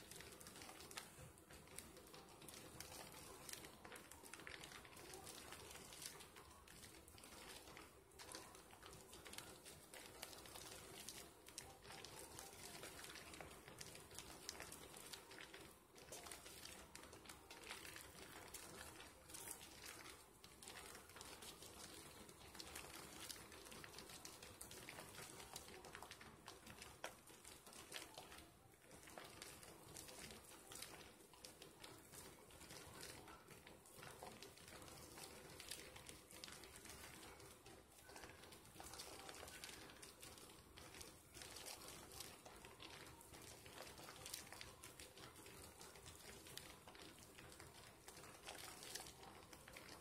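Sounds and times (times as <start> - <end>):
foam crackling: 0.0 - 50.0.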